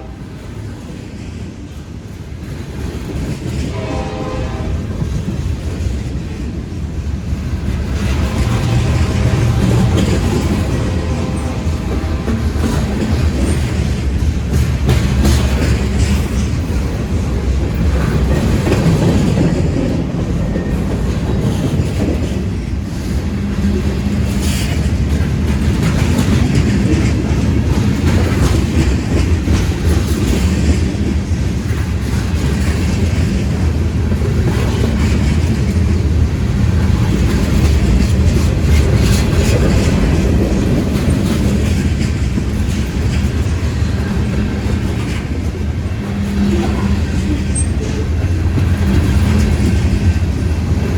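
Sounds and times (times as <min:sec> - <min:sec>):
freight train rumbling past: 0:00.0 - 0:50.9
wheels clacking over rail joints: 0:00.0 - 0:50.9.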